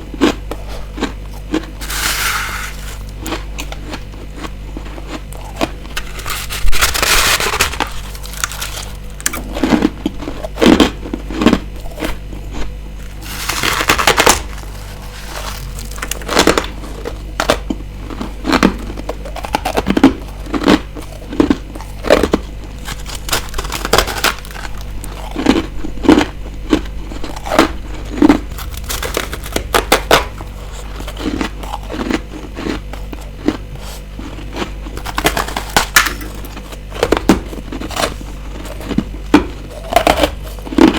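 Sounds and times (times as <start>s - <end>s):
ice crunching being chewed: 0.0s - 40.9s.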